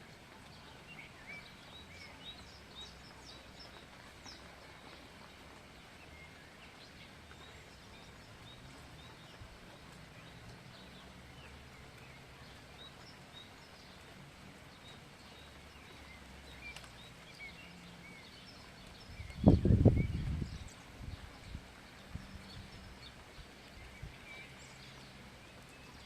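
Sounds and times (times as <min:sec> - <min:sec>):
birds chirping faintly: 0:00.0 - 0:26.0
steady outdoor hiss: 0:00.0 - 0:26.0.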